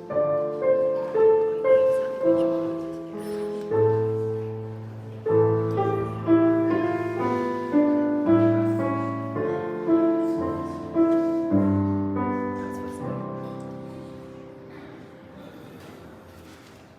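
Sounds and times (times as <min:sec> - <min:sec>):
piano playing slow chords: 0:00.0 - 0:16.4.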